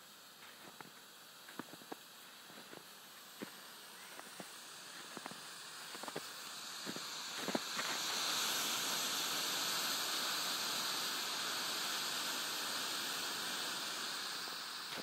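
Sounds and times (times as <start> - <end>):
smoke pot hissing: 0.0 - 15.0
crackles: 0.2 - 15.0.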